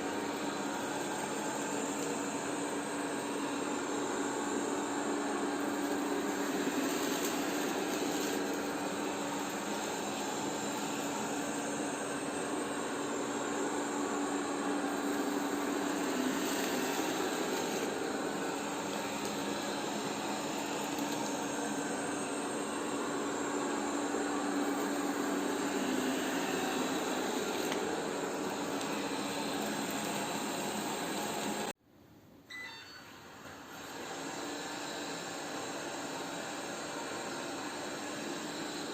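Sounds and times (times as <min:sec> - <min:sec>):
robot vacuum cleaner whirring: 0:00.0 - 0:31.7, 0:33.2 - 0:38.9.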